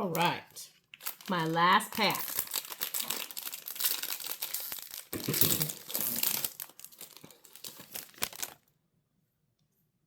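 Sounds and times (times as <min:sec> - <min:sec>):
wrapper being torn and crinkled: 0:00.0 - 0:08.7.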